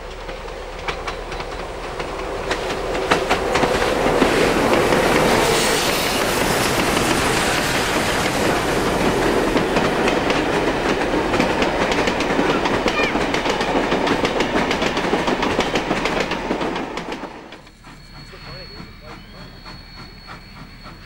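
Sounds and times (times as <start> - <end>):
train carriages rushing past: 0.0 - 21.0
wheels clicking over rail joints: 0.0 - 21.0.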